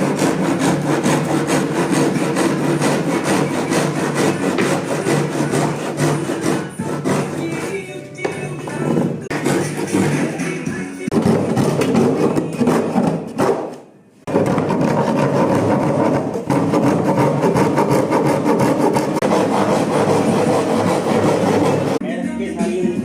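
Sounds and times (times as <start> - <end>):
wood rasping: 0.0 - 22.0.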